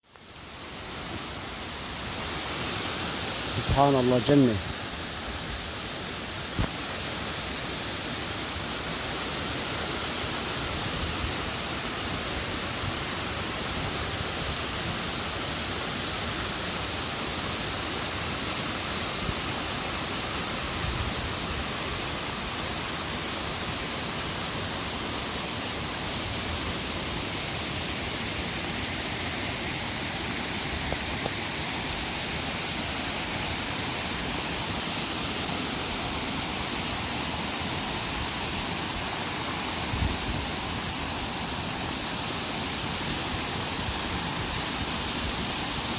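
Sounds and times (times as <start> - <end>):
waterfall rushing: 0.2 - 45.9.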